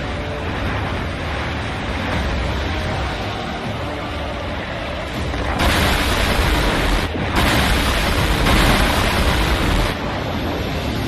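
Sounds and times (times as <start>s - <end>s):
deep rumble: 0.0s - 11.0s
loud rushing noise: 0.0s - 11.0s.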